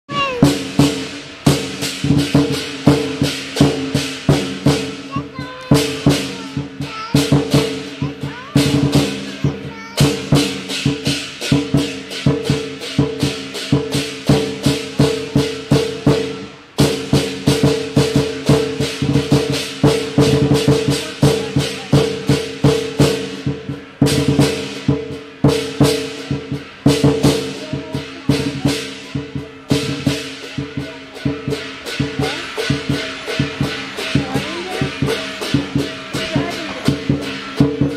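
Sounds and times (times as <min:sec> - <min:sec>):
clashing cymbals: 0:00.1 - 0:37.9
drum beating fast rhythm: 0:00.1 - 0:37.9.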